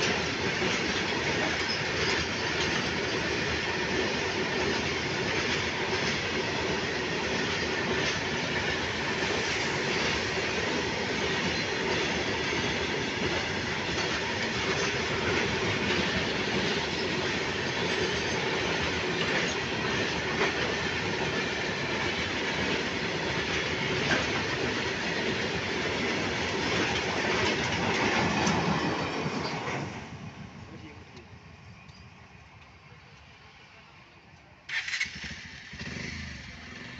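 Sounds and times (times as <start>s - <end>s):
train wheels clattering on rails: 0.0s - 30.3s.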